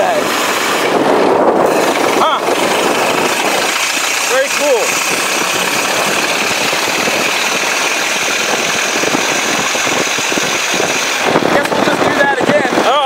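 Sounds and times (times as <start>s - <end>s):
car engine running: 0.0s - 13.0s
wind and tyres on wet road: 0.0s - 13.0s.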